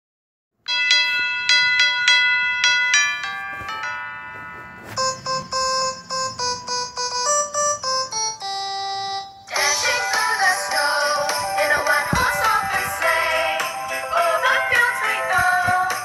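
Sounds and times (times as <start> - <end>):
bell-like keyboard music: 0.7 - 16.0.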